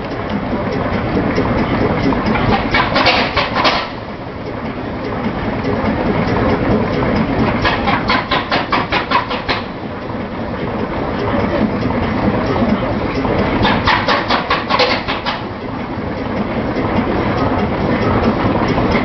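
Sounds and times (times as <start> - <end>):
large engine low rumble: 0.0 - 19.0
rapid even clattering beats: 0.0 - 19.0.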